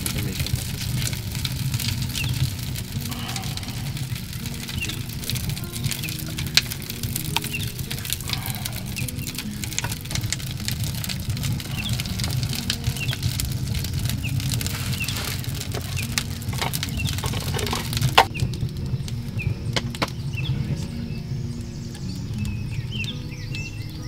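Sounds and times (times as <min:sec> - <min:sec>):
sharp fire snap: 0:00.0 - 0:24.0
wood fire crackling: 0:00.0 - 0:24.0.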